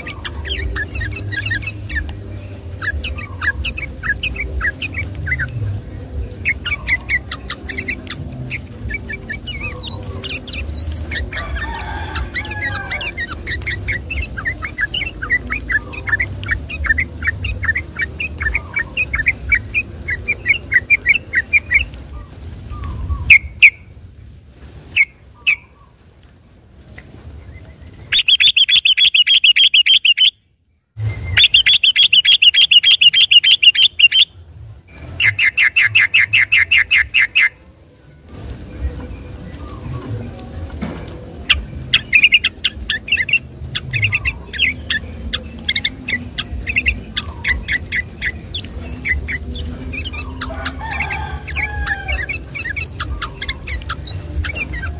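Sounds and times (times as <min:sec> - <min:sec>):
bulbul singing: 0:00.0 - 0:24.2, 0:24.8 - 0:26.1, 0:27.3 - 0:54.9.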